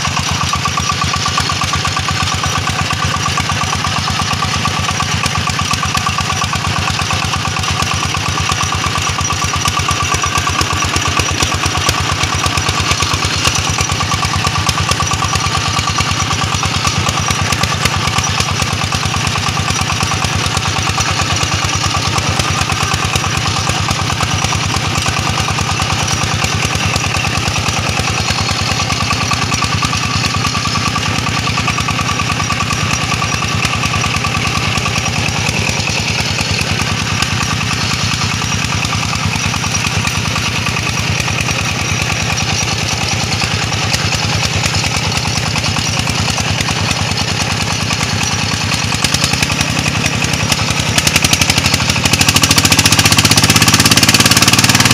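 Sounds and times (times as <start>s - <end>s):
diesel tractor engine chugging: 0.0s - 54.9s.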